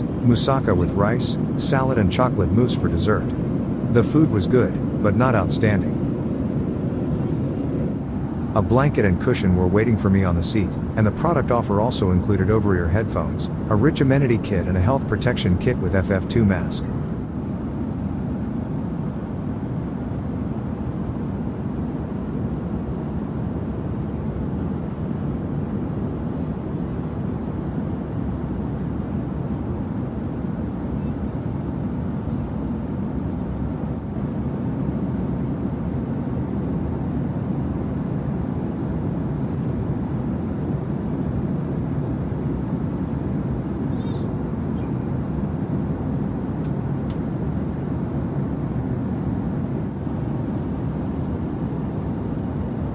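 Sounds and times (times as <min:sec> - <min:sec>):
airliner cabin hum: 0:00.0 - 0:52.9.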